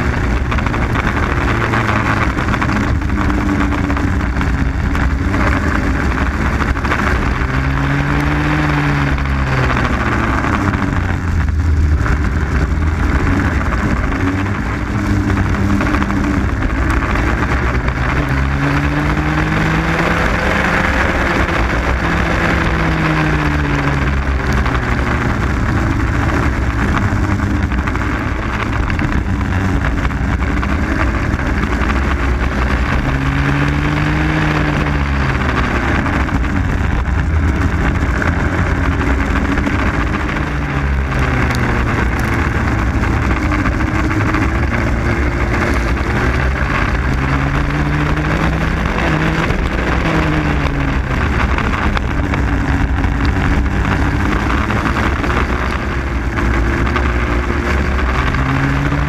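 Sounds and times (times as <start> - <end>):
two-stroke kart engine revving: 0.0 - 59.0.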